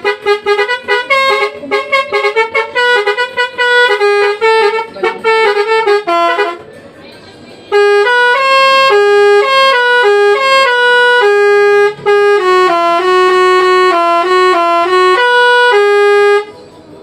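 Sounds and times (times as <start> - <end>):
bus horn playing a tune: 0.0 - 6.9, 7.7 - 16.6.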